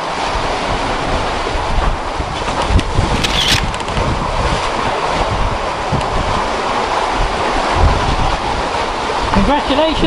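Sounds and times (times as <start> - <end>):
rough sea rushing: 0.0 - 10.0
wind buffeting microphone: 0.1 - 10.0.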